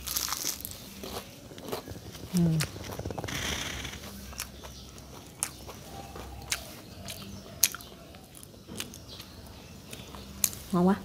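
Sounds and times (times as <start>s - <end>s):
person chewing crunchy food: 0.0s - 10.7s.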